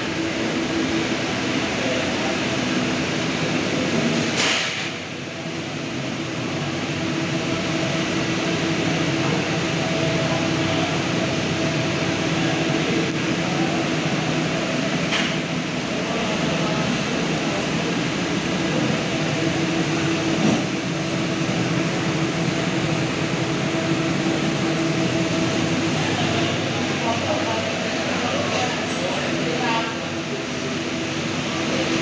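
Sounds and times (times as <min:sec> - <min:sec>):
extraction fan running: 0:00.0 - 0:32.0.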